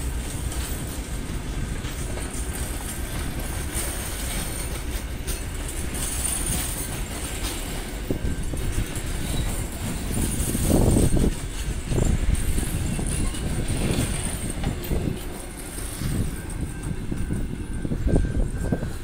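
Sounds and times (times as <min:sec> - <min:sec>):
train carriages rolling past: 0:00.0 - 0:19.0.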